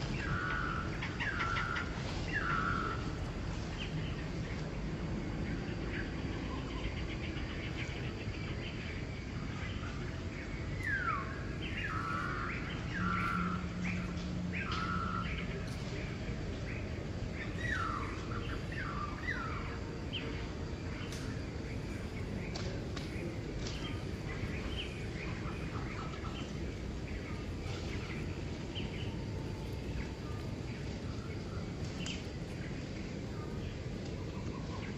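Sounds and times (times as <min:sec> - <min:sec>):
low background hiss: 0:00.0 - 0:34.9.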